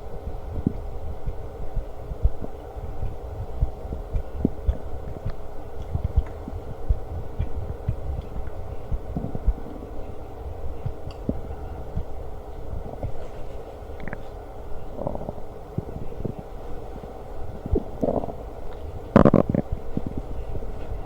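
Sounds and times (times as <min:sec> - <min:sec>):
steady hum: 0:00.0 - 0:21.0
stomach growling: 0:00.5 - 0:21.0.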